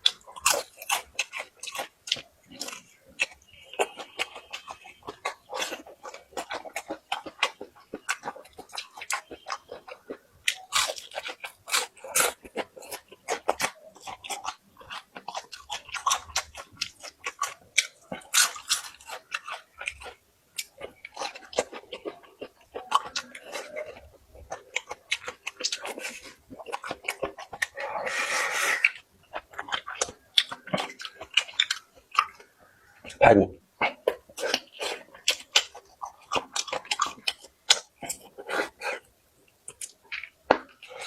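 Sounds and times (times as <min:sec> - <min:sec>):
person chewing crunchy food: 0:00.0 - 0:33.2, 0:33.8 - 0:41.0.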